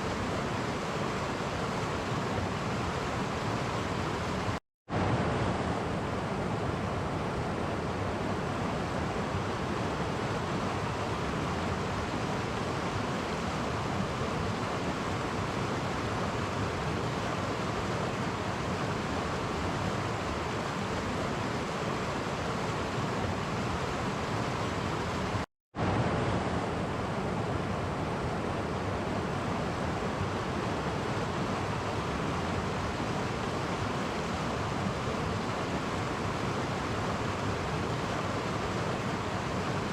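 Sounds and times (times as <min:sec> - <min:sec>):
stream flowing over cascades: 0:00.0 - 0:39.9.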